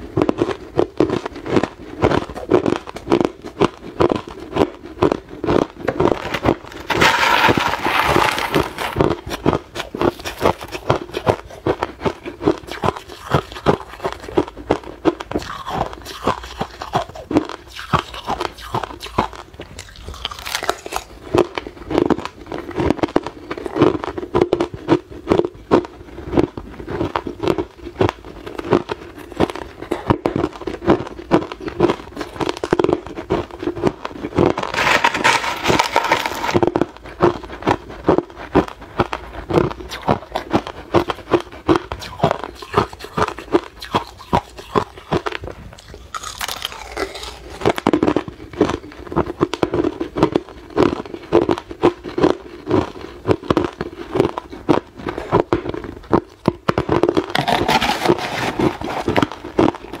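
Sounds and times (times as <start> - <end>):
ice being chewed: 0.0 - 60.0.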